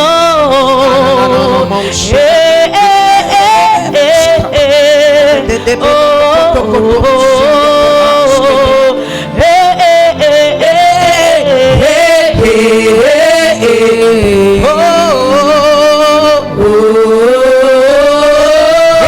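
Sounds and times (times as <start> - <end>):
instrumental backing: 0.0 - 19.0
man singing long wavering notes: 0.0 - 19.0.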